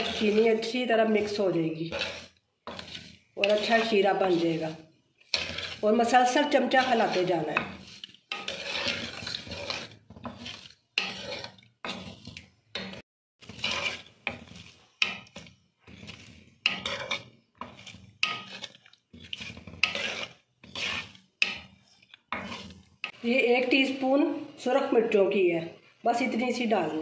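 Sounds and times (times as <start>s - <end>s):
wooden spatula scraping metal pan: 0.0s - 27.0s.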